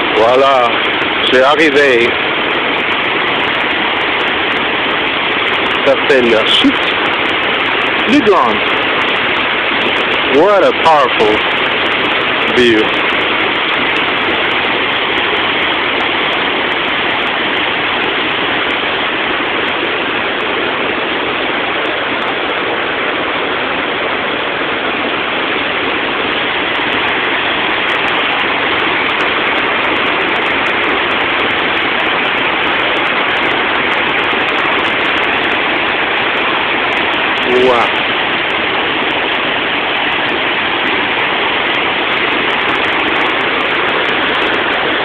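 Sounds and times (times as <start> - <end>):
waterfall roaring: 0.0 - 45.0.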